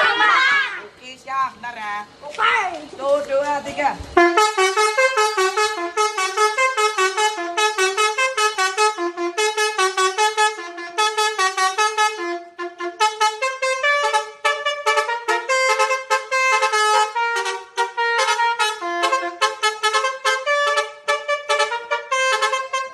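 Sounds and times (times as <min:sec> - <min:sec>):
bus horn playing melody: 0:04.2 - 0:22.9.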